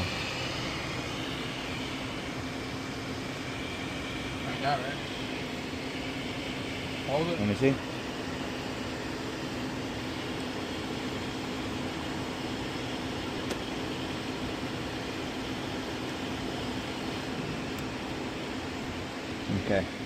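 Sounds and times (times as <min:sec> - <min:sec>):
air conditioning blower rush: 0:00.0 - 0:20.0
low hum: 0:00.0 - 0:20.0.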